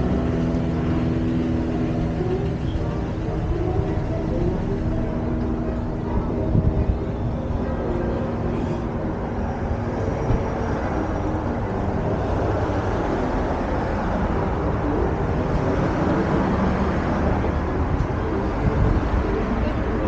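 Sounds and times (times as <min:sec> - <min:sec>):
street traffic passing: 0:00.0 - 0:20.0.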